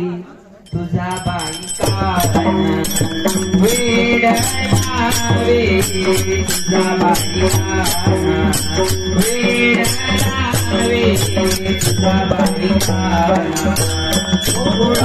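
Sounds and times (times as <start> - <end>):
voices singing a chanted refrain: 0.0 - 15.0
hand cymbals clashing: 0.6 - 15.0
barrel drum keeping time: 0.8 - 15.0.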